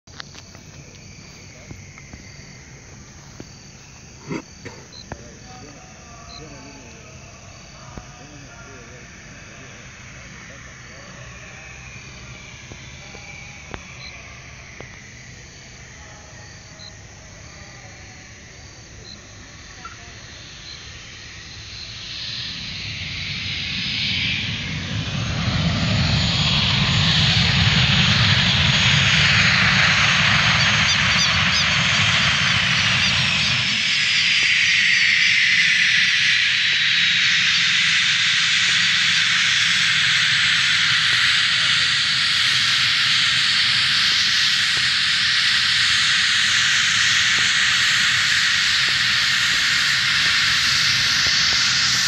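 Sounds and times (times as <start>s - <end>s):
faint chirps: 0.1s - 27.4s, 28.0s - 52.0s
jet engines whining: 0.1s - 52.0s.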